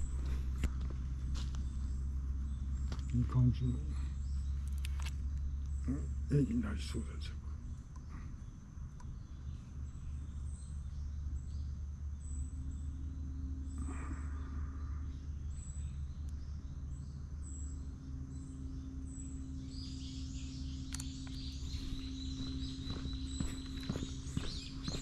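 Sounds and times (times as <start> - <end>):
birds chirping: 0.0 - 25.0
faint continuous hum: 0.0 - 25.0
steady low rumble: 0.0 - 25.0.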